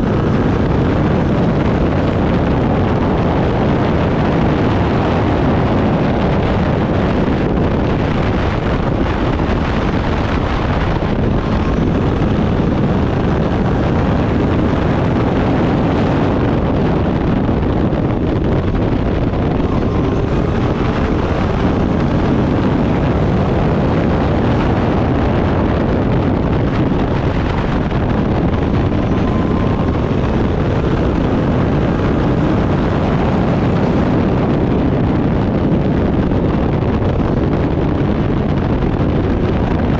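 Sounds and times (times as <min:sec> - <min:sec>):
racing car engine running hard: 0:00.0 - 0:39.9
wind noise on microphone: 0:00.0 - 0:39.9.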